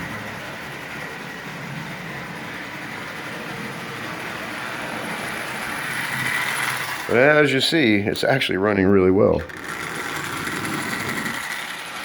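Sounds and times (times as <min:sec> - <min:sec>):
toy train motor humming: 0:00.0 - 0:12.0.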